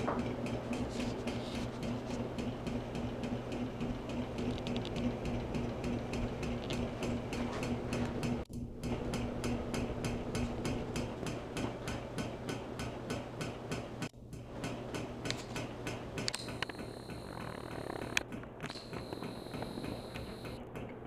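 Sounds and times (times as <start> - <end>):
fan ticking: 0.0 - 20.9
ceiling fan motor hum: 0.0 - 21.0.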